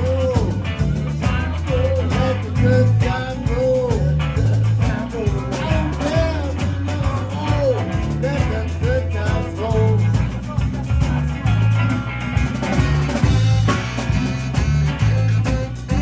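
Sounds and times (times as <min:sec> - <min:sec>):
bass: 0:00.0 - 0:16.0
drums: 0:00.0 - 0:16.0
lead guitar bending notes: 0:00.0 - 0:16.0.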